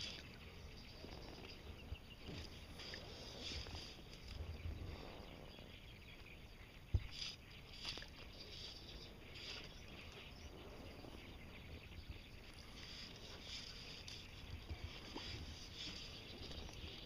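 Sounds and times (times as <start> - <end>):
faint high bird calls: 0.0 - 17.0.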